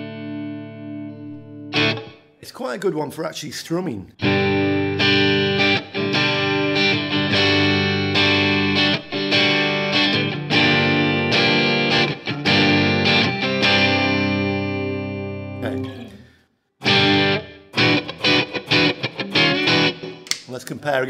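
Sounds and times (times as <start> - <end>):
electric guitar chords strummed: 0.0 - 2.4, 4.2 - 16.1, 16.8 - 20.4.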